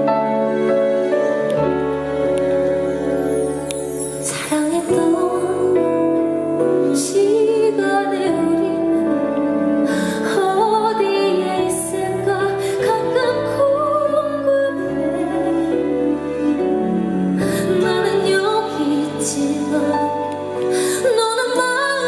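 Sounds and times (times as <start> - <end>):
sustained instrumental accompaniment: 0.0 - 21.8
woman singing a slow ballad: 4.2 - 22.0.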